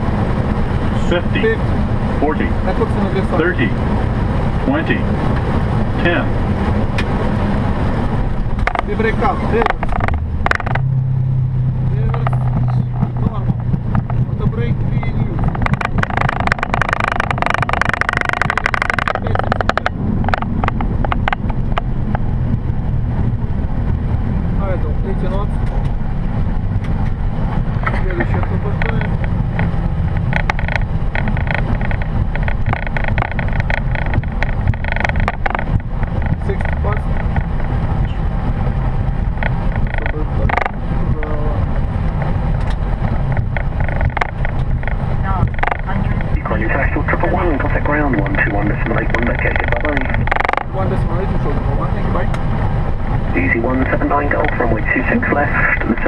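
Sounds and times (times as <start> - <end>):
wheels rattling on runway: 0.0 - 10.9, 11.8 - 56.0
jet engines rushing: 0.0 - 56.0
low rumble: 0.0 - 56.0.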